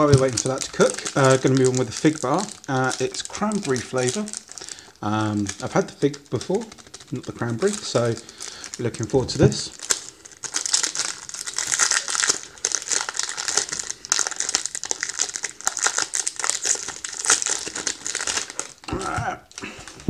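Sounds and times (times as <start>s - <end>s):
foil wrapper crinkling: 0.0s - 20.0s.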